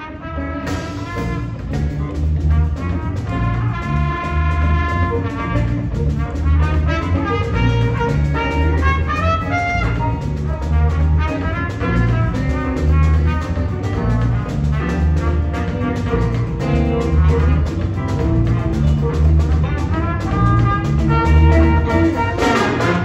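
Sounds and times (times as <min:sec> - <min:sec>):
jazz big band playing: 0:00.0 - 0:23.0
trumpet playing: 0:00.0 - 0:23.0
repeating bass line: 0:00.6 - 0:23.0.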